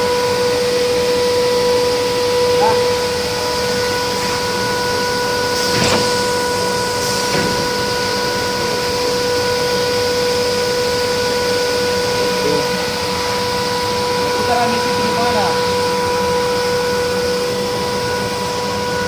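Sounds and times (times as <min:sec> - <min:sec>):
glass-cutting machinery whining: 0:00.0 - 0:19.0.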